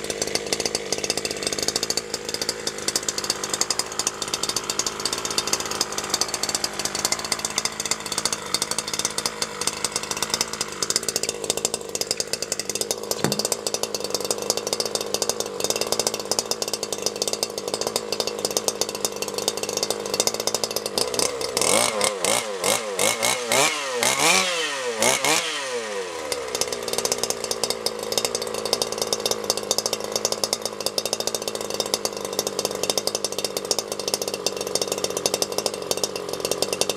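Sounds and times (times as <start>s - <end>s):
rc car engine idling and revving: 0.0s - 36.9s.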